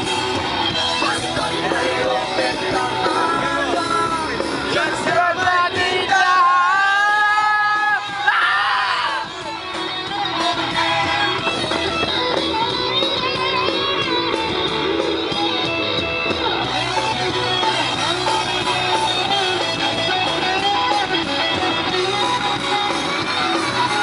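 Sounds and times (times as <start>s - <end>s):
rock music with electric guitar: 0.0s - 24.0s.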